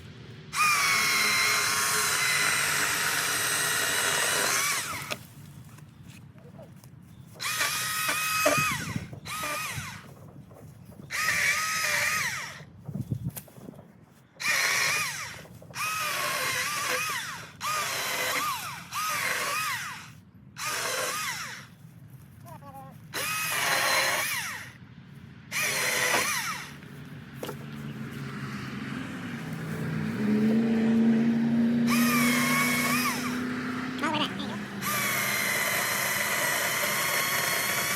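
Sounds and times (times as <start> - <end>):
electric chainsaw cutting wood: 0.5 - 5.2, 7.4 - 10.2, 11.1 - 12.7, 14.4 - 21.7, 23.1 - 24.8, 25.5 - 37.9.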